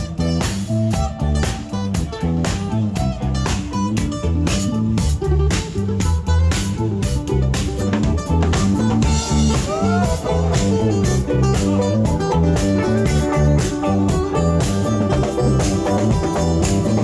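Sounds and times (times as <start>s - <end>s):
acoustic guitar: 0.0s - 17.0s
bass guitar: 0.0s - 17.0s
electric guitar: 0.0s - 17.0s
steady drum beat: 0.0s - 17.0s.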